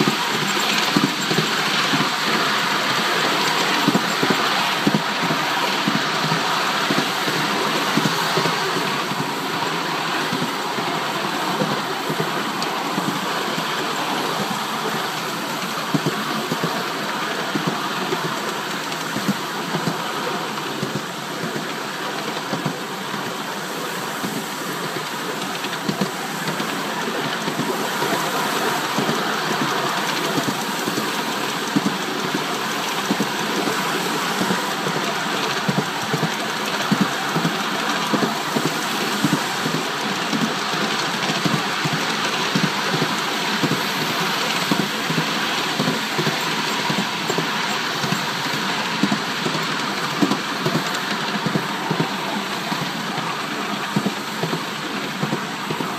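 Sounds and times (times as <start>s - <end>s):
miniature steam train running: 0.0s - 55.9s
wheels clicking on rails: 0.0s - 55.9s.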